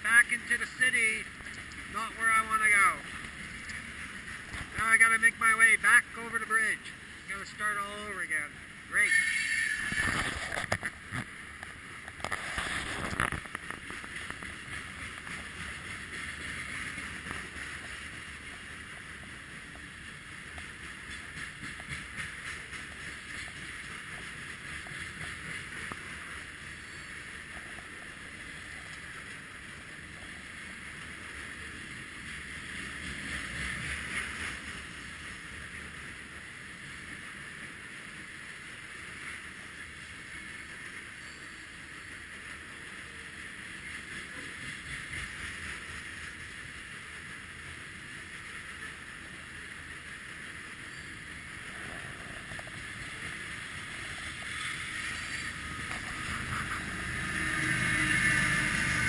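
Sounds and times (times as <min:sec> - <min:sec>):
train wheels rattling on rails: 0:00.0 - 0:59.0.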